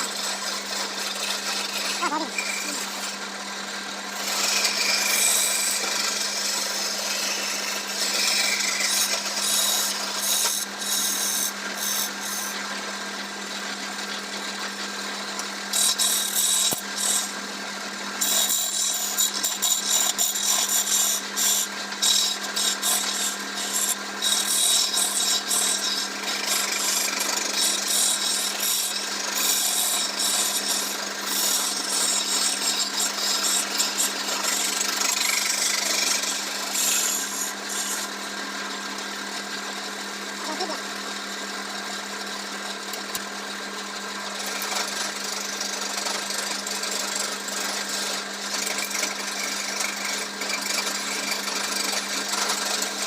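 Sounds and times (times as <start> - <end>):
turning tool cutting wood: 0.0 - 53.0
wood lathe motor hum: 0.0 - 53.0.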